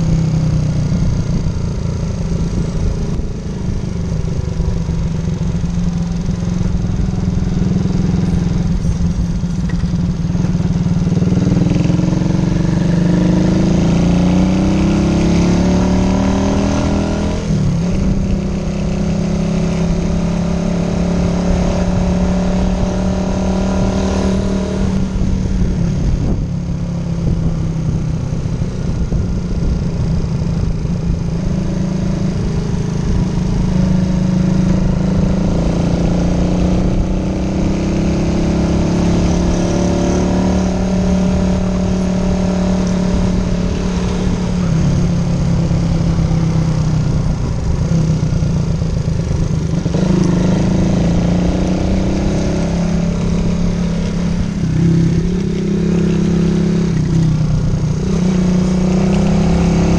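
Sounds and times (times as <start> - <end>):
motorcycle engine accelerating: 0.0 - 59.9
wind on microphone: 0.0 - 59.9.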